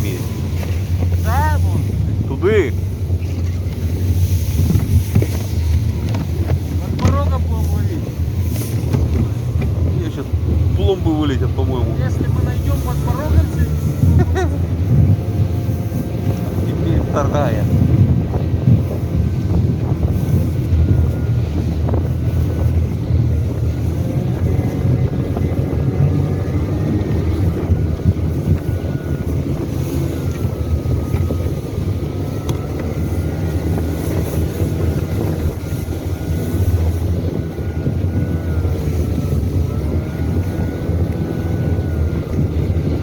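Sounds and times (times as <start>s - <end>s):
snowmobile engine droning: 0.0s - 43.0s
wind buffeting microphone: 0.0s - 43.0s.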